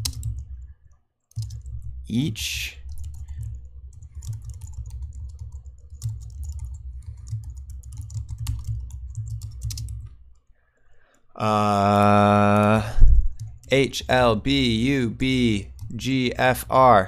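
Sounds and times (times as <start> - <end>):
computer keyboard typing: 0.0 - 10.4, 11.7 - 17.0.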